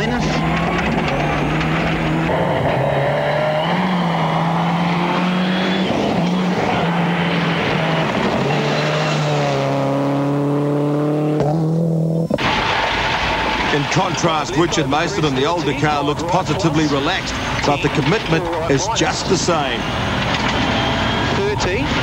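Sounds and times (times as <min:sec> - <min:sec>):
rally car engine with gear changes: 0:00.0 - 0:22.0.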